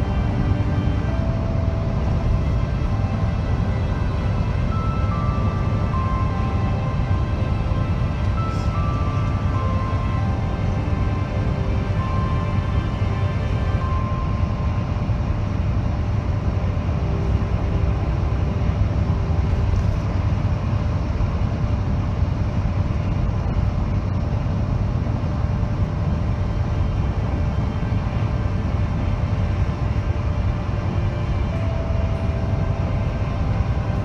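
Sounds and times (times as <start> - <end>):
vehicle rumble heard on board: 0.0 - 34.0.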